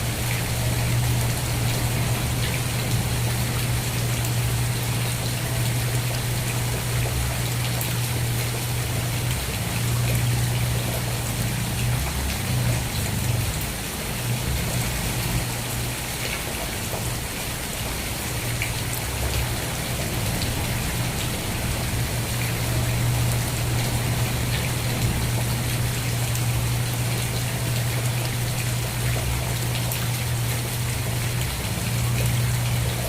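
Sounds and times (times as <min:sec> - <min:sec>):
rain drops pattering: 0:00.0 - 0:33.0.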